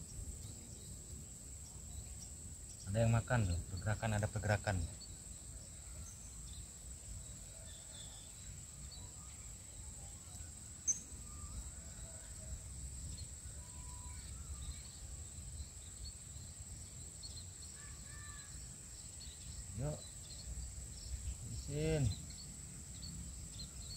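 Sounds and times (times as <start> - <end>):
faint chirps: 0.0 - 23.9
insect drone: 0.0 - 23.9.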